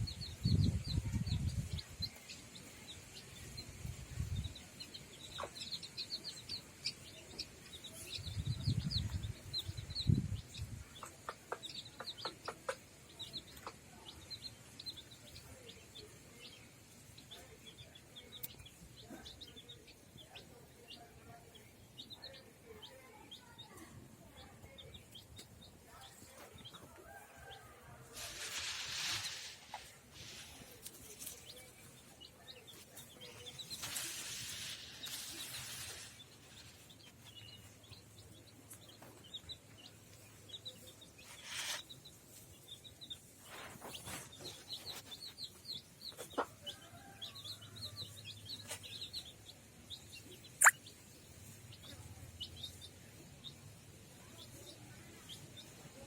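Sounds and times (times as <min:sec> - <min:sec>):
chicks peeping: 0:00.0 - 0:56.0.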